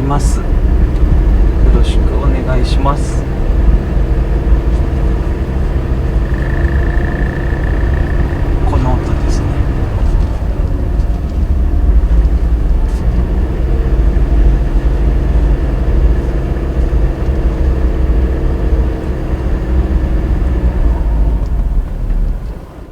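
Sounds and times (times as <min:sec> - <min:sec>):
buzzing vibration: 0:00.0 - 0:22.5
engine rumble inside car: 0:00.0 - 0:22.9.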